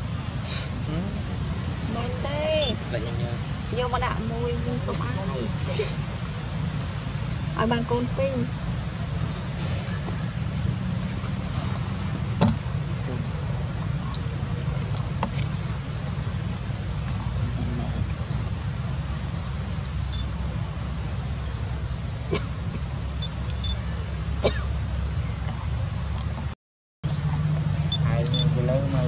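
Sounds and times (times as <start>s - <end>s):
insects buzzing: 0.0s - 26.5s, 27.1s - 29.0s.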